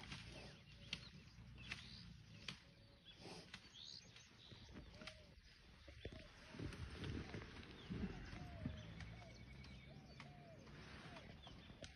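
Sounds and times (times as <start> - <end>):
faint birds chirping: 0.0 - 11.9.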